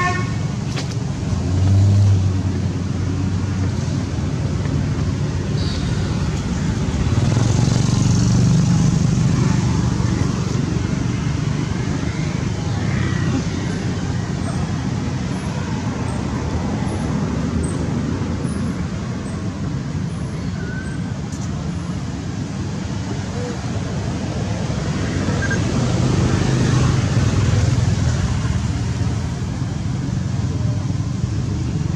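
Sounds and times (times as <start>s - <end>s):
road traffic rumble: 0.0s - 31.9s.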